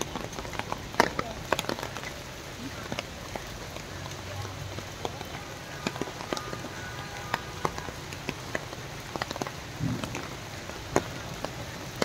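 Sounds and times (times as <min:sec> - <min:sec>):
heavy rain hiss: 0:00.0 - 0:12.0
raindrops tapping a surface: 0:00.0 - 0:12.0.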